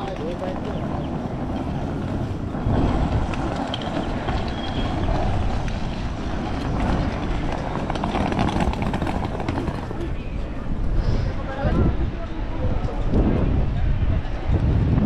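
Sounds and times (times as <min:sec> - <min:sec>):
street noise: 0:00.0 - 0:15.0
vehicle low rumble: 0:00.0 - 0:15.0.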